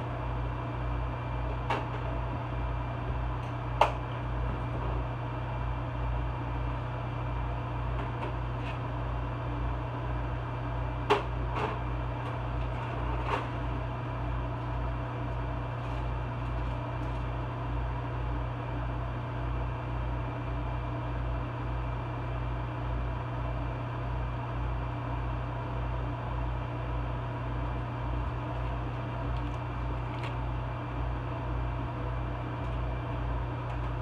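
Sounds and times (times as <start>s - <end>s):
microwave vent fan humming: 0.0s - 34.0s.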